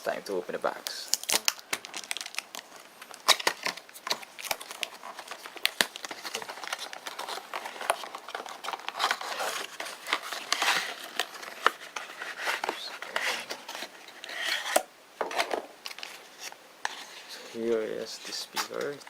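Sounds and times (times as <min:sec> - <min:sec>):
packaging crinkling and rustling: 0:00.7 - 0:19.0.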